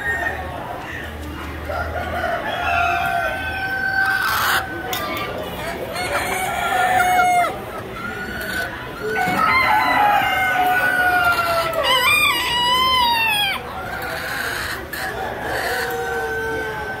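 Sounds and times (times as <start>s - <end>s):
roosters crowing: 1.6s - 17.0s.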